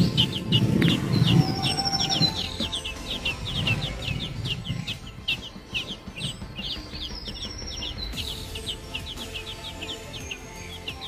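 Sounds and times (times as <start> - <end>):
nestlings chirping: 0.0 - 11.0
thin bird whistles: 0.0 - 11.0.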